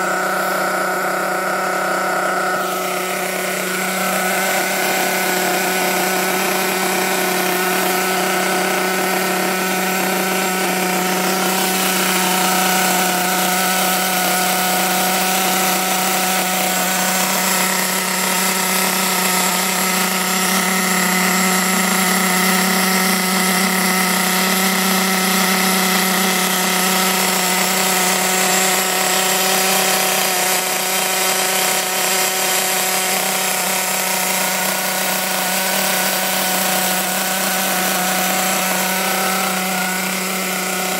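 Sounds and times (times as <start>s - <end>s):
model engine high-pitched buzz: 0.0s - 40.9s.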